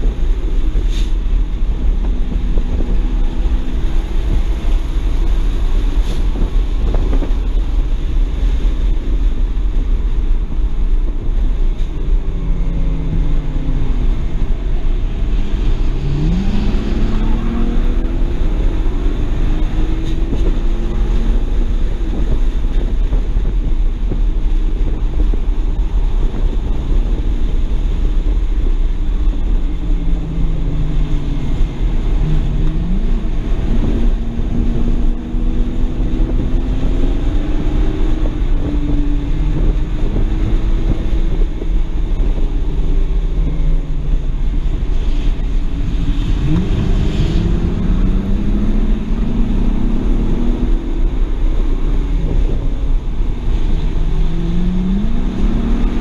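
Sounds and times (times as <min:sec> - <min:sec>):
car engine revving: 0:00.0 - 0:56.0
wind and road rumble: 0:00.0 - 0:56.0.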